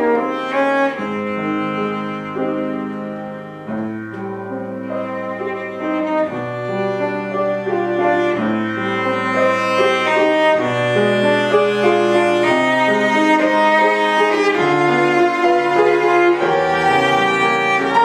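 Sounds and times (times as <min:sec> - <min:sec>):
cello playing bowed notes: 0:00.0 - 0:18.0
piano accompaniment: 0:00.0 - 0:18.0.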